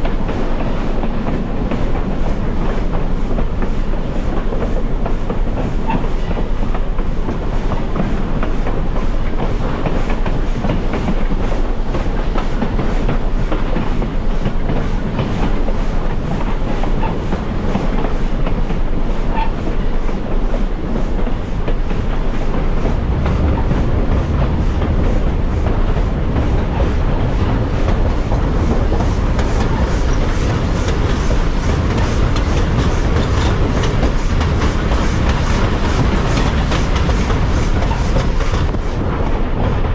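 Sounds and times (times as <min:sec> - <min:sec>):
clickety-clack over rail joints: 0:00.0 - 0:39.9
train wheels rumbling on rails: 0:00.0 - 0:39.9.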